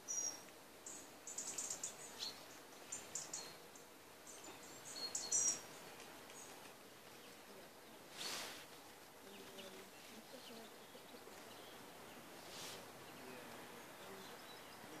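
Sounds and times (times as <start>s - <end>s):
small birds chirping: 0.0s - 15.0s
soft rush of noise: 0.0s - 15.0s.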